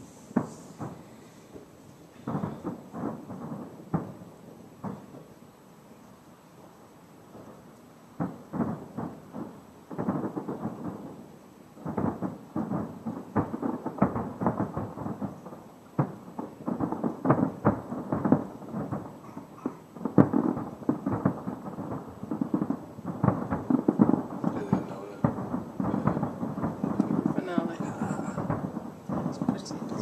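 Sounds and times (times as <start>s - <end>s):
distant fireworks bursting: 0.0s - 30.0s.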